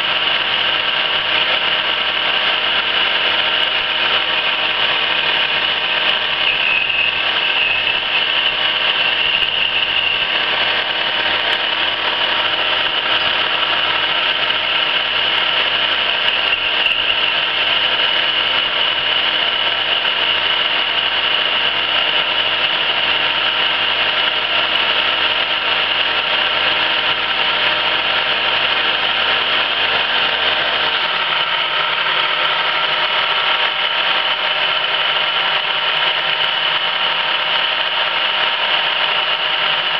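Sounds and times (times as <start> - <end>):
high machine whine: 0.0 - 39.9
lathe machine humming: 0.0 - 39.9.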